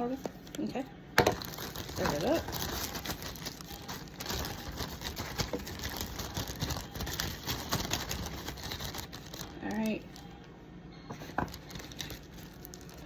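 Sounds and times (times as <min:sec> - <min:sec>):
plastic bag rustling: 0:01.2 - 0:10.3, 0:11.1 - 0:13.0.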